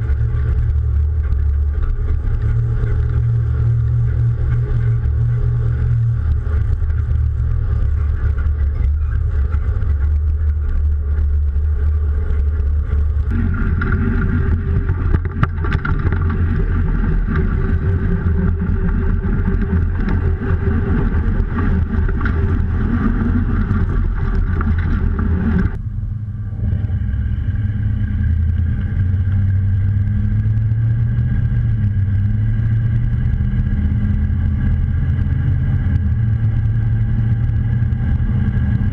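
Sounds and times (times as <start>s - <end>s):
pickup truck engine running: 0.0s - 38.9s
road noise: 0.0s - 38.9s.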